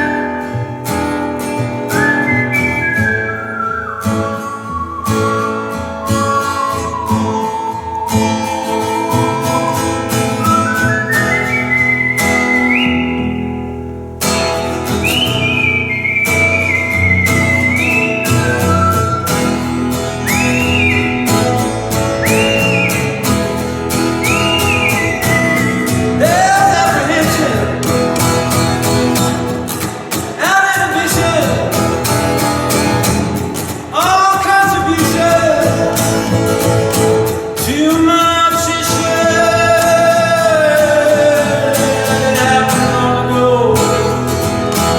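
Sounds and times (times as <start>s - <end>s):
strummed guitar: 0.0s - 44.9s.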